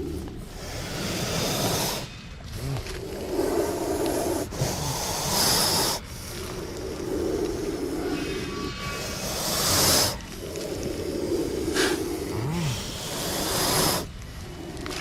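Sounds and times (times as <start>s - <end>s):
rustling and scraping in soil: 0.0s - 15.0s
snakes hissing: 0.0s - 15.0s.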